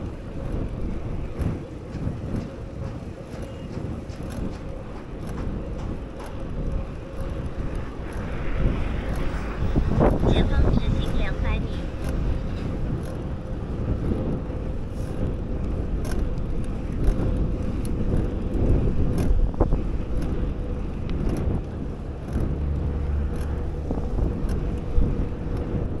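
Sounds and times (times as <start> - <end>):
bicycle clicks and rattles: 0.0 - 10.9, 11.8 - 26.0
wind and tyre rumble: 0.0 - 26.0.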